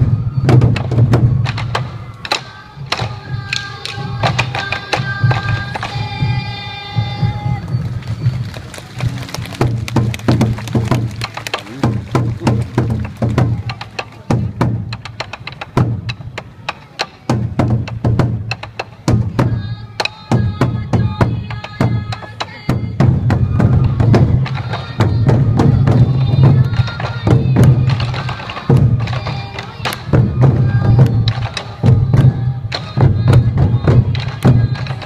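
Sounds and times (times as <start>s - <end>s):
high bamboo flute melody: 0.0s - 35.0s
taiko drums in driving rhythm: 0.0s - 35.0s.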